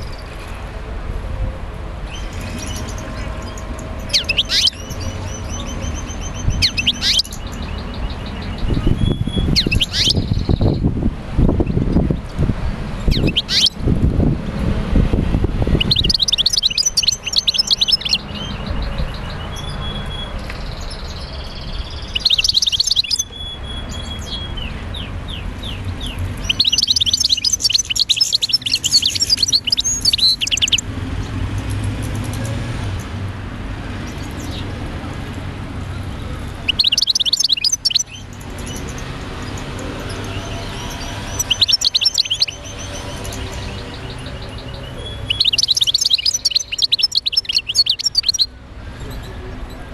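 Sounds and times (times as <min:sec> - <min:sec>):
birds chirping: 0:02.0 - 0:49.9.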